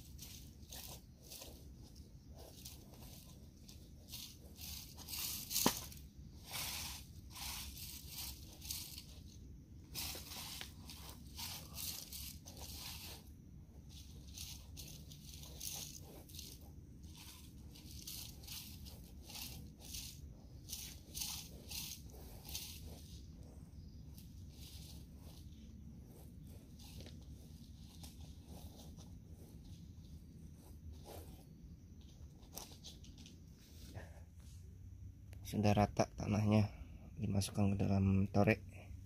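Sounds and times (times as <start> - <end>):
hands scraping soil: 0.0 - 34.5.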